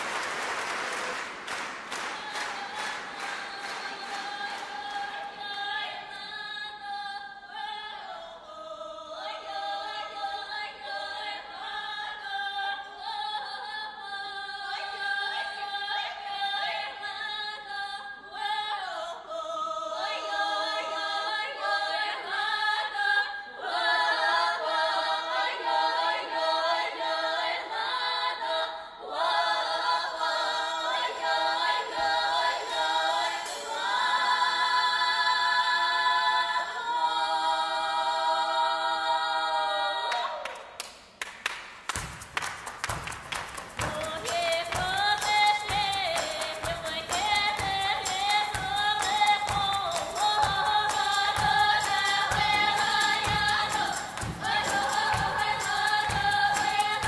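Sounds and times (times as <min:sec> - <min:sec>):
women's folk choir singing: 0:01.2 - 0:40.6, 0:42.9 - 0:57.0.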